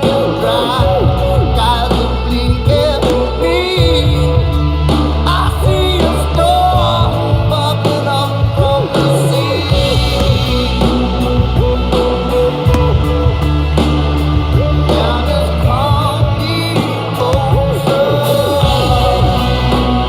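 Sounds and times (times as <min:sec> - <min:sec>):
person singing lead vocals: 0:00.0 - 0:20.0
steady bass line: 0:00.0 - 0:20.0.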